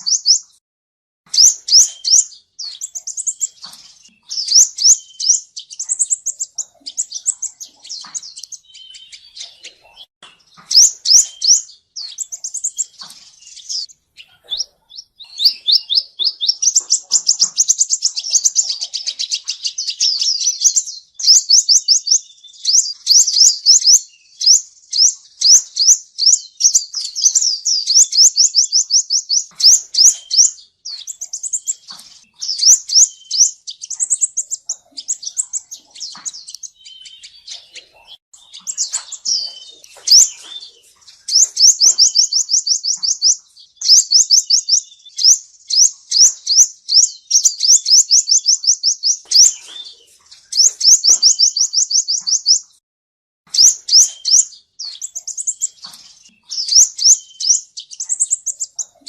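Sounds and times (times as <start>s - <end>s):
bird singing fast trills: 0.0s - 0.6s, 1.3s - 52.8s, 53.5s - 59.0s.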